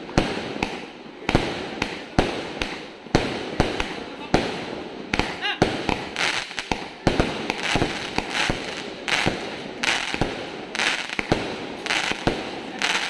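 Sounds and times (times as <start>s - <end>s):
firework bangs: 0.0s - 13.0s.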